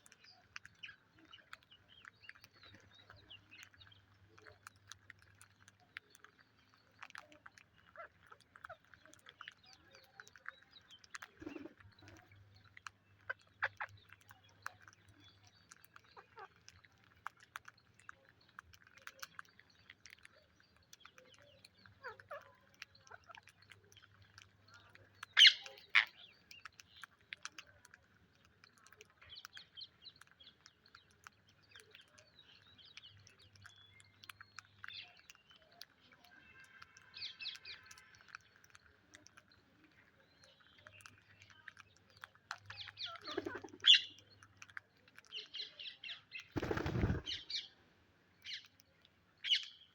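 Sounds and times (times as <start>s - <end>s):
parakeets chirping and clicking: 0.0s - 47.7s, 48.3s - 49.9s.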